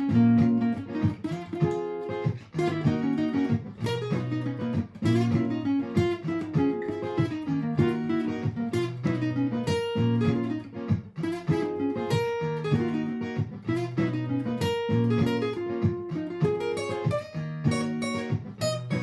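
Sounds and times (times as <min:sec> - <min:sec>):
looped guitar chords: 0:00.0 - 0:19.0
plucked guitar notes: 0:00.0 - 0:19.0.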